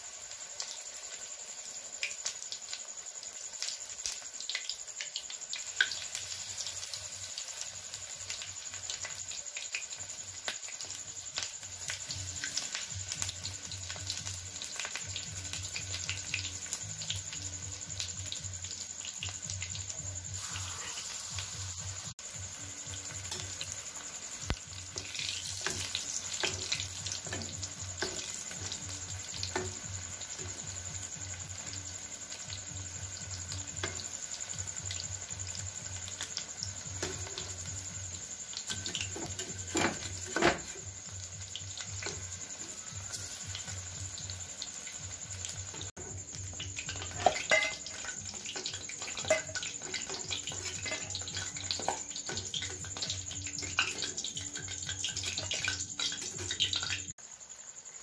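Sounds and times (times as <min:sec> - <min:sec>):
fritters sizzling in hot oil: 0:00.0 - 0:58.0.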